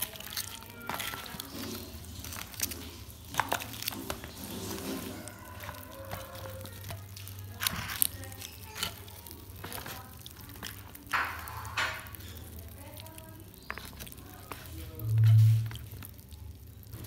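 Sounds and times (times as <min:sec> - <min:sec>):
paper wrapper crinkling: 0:00.0 - 0:17.0.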